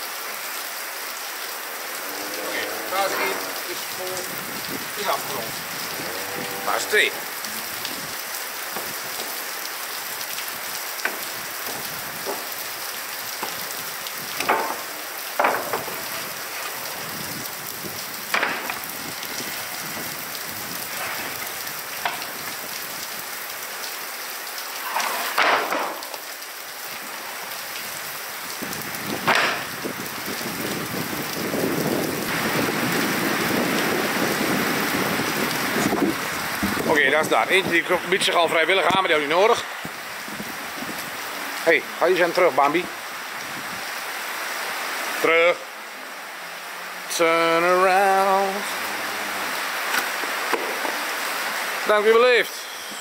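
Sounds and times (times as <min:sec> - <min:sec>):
rain on a metal roof: 0:00.0 - 0:53.0.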